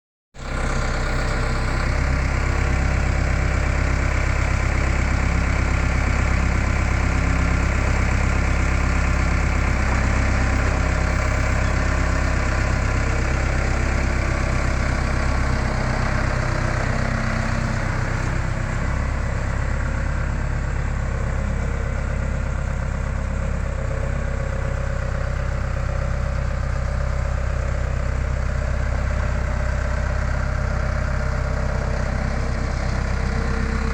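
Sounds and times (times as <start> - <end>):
loader engine running: 0.4 - 33.9.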